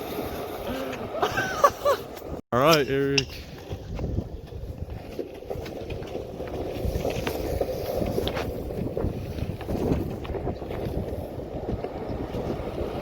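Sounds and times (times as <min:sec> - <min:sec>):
skateboard wheels rolling on wet asphalt: 0:00.0 - 0:02.4, 0:03.3 - 0:13.0
wind buffeting microphone: 0:00.0 - 0:13.0.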